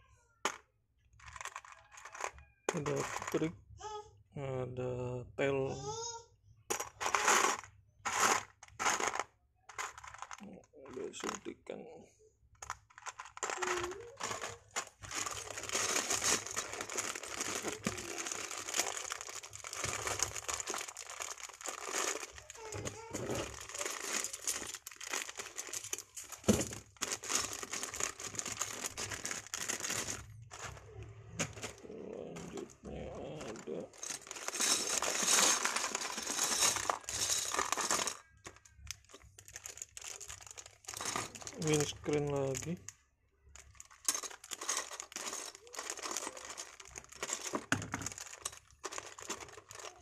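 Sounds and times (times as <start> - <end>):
plastic bricks clicking in a tub: 0.4 - 3.5, 6.7 - 11.4, 12.6 - 22.4, 23.4 - 30.8, 32.4 - 42.8, 43.6 - 50.0
plastic bags crinkling: 1.2 - 3.5, 7.0 - 11.5, 12.6 - 50.0.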